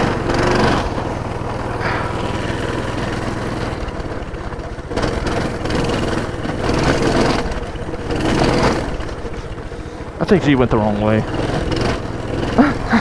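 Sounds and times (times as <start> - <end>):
small motorbike engine revving: 0.0 - 13.0.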